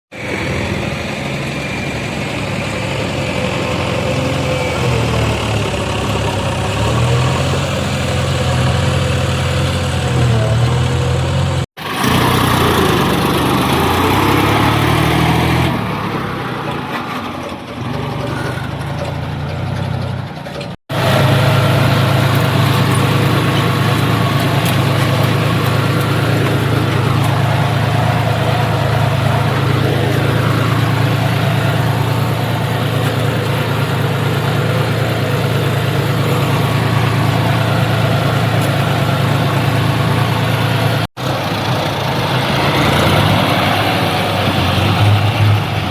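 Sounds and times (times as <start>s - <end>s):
diesel engines revving: 0.1s - 45.9s.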